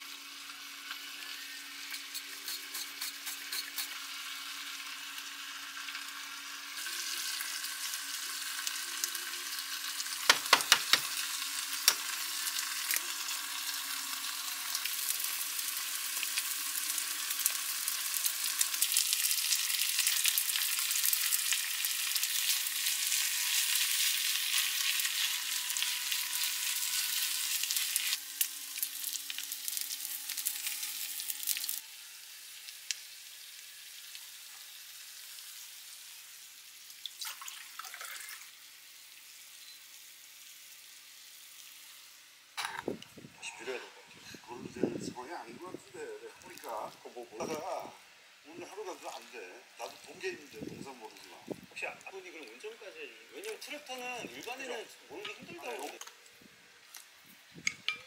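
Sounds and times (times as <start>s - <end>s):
egg sizzling in hot pan: 0.0s - 44.4s, 46.0s - 58.0s.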